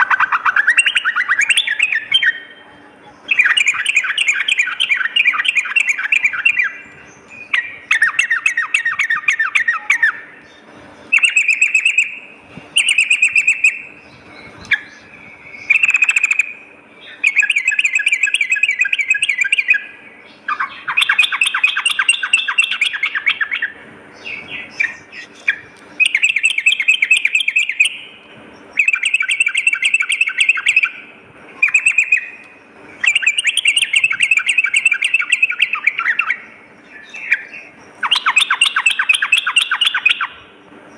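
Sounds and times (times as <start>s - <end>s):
bulbul chattering trills: 0.0s - 40.9s.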